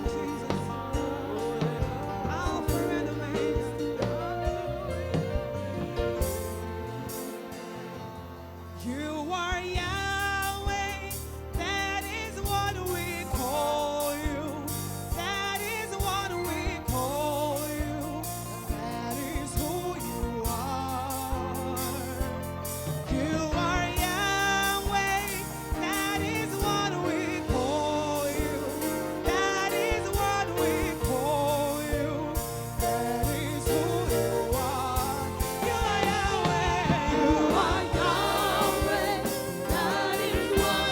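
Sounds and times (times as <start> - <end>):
steady drum beat: 0.0 - 7.8, 9.6 - 40.9
bass: 0.0 - 40.9
keyboard: 0.0 - 40.9
person singing wordless melody: 0.0 - 40.9.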